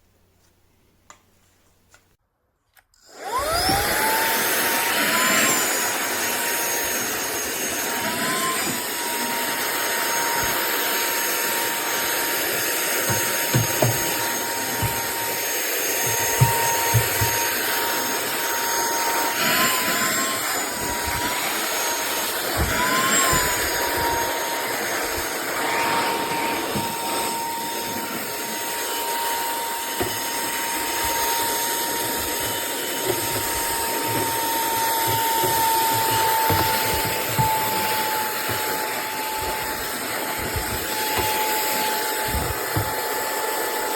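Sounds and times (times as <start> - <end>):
handheld vacuum motor whine: 3.0 - 43.9.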